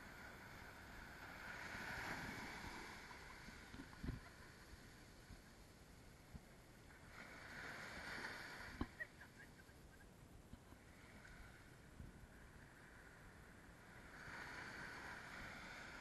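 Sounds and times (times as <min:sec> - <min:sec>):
small waves on sandy beach: 0:00.0 - 0:09.9, 0:10.6 - 0:16.0.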